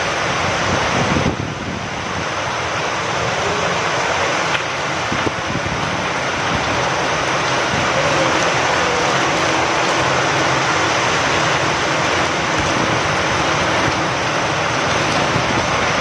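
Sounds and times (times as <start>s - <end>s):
rain falling with wind: 0.0s - 16.0s.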